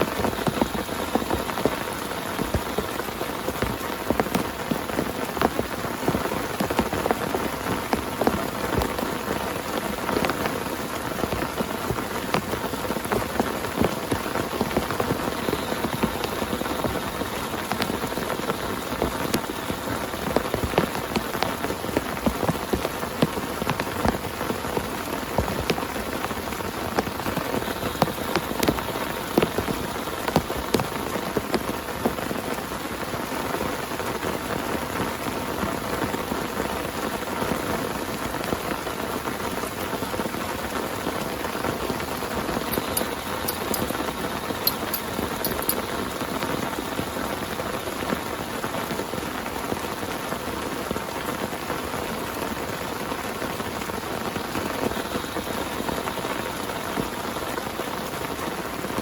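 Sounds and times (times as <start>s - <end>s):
heavy rain falling: 0.0s - 59.0s
raindrops striking surface: 0.0s - 59.0s.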